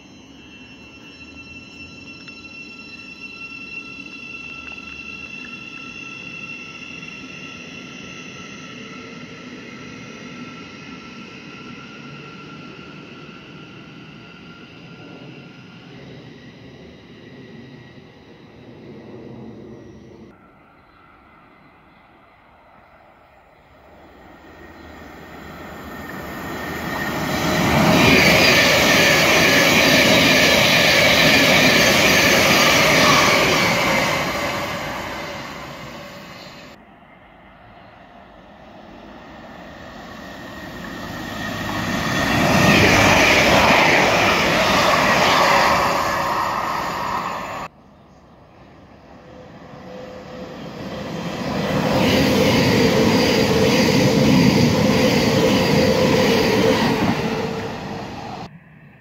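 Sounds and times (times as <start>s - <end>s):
trains rushing past: 0.0s - 59.0s.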